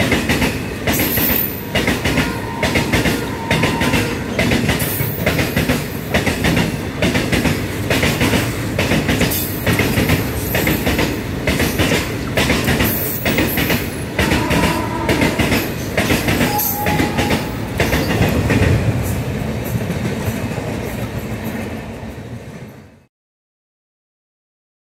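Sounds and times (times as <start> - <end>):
train wheels clattering over rail joints: 0.0 - 3.2, 3.8 - 21.8.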